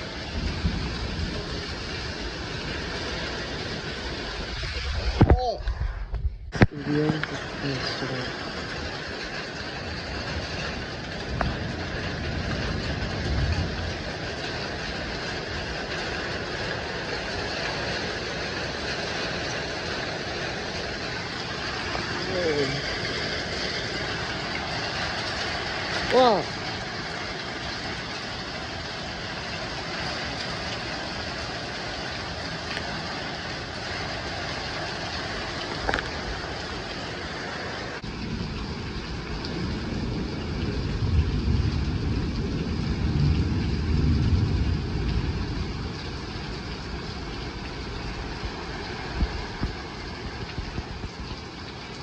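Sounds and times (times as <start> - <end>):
deep low thunder rumble: 0.0 - 36.7, 37.9 - 52.0
heavy rain pouring: 0.0 - 52.0.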